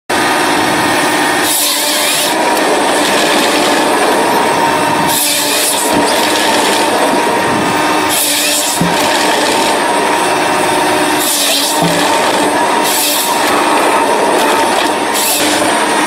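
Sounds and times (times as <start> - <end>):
harvester engine and hydraulics: 0.1 - 16.0
chainsaw bar cutting log: 1.0 - 16.0.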